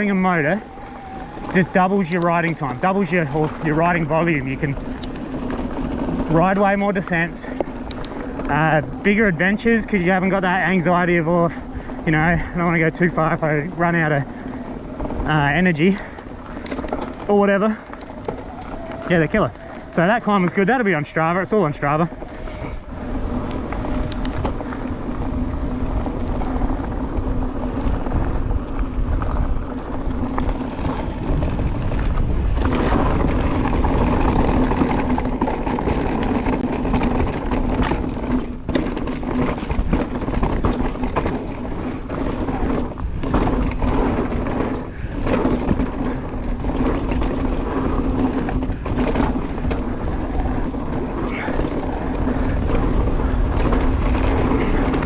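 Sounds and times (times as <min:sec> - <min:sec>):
bike knocking and rattling: 0:00.0 - 0:55.0
wind and tyres rumbling: 0:00.0 - 0:55.0.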